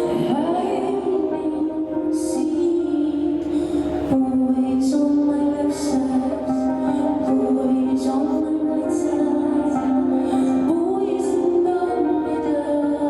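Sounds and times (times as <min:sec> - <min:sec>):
slow music with long held notes: 0:00.0 - 0:13.0.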